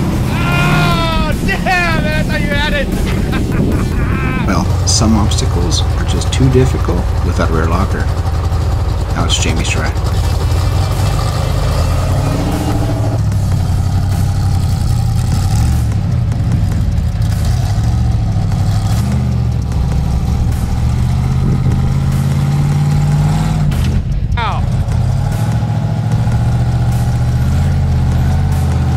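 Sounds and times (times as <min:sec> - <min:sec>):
off-road engine revving under load: 0:00.0 - 0:28.9.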